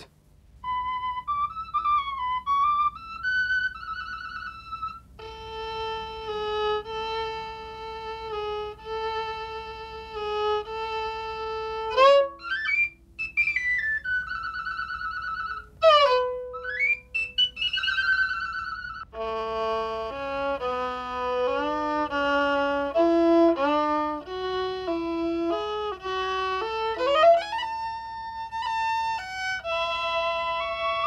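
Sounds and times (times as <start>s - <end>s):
fiddle music: 0.0s - 31.0s.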